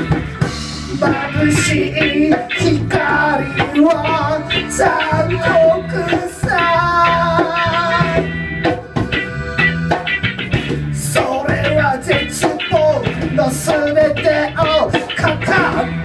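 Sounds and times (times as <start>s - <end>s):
drums: 0.0s - 16.0s
live band music: 0.0s - 16.0s
melodic lead line: 0.0s - 16.0s
repeating bass line: 0.0s - 16.0s.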